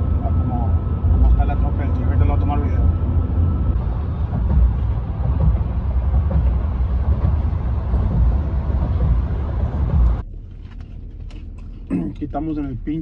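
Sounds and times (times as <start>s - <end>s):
road noise inside vehicle cabin: 0.0s - 13.0s.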